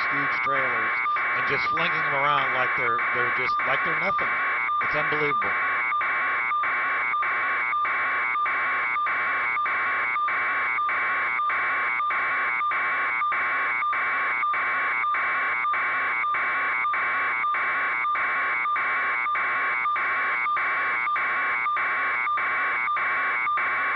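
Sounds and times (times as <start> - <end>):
harsh electronic buzz: 0.0 - 23.9.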